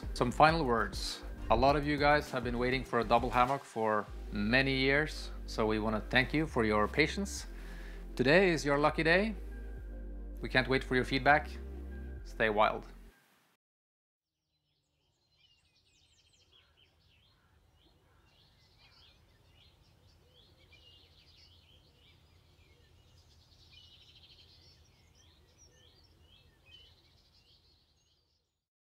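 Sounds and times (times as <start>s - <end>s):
birds chirping and trilling: 0.0s - 9.4s, 14.6s - 28.6s.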